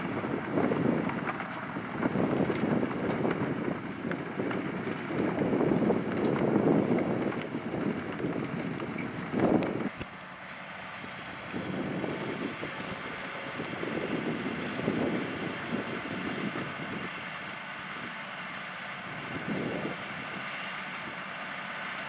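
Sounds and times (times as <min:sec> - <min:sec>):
wind on microphone: 0:00.0 - 0:10.1, 0:11.2 - 0:17.3, 0:19.0 - 0:21.2
tractor engine running: 0:00.0 - 0:22.0.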